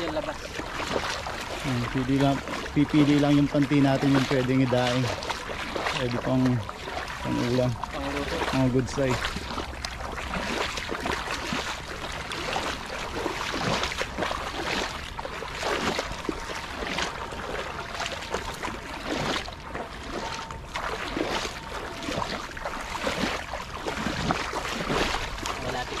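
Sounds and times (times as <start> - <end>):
wading through shallow water: 0.0 - 26.0.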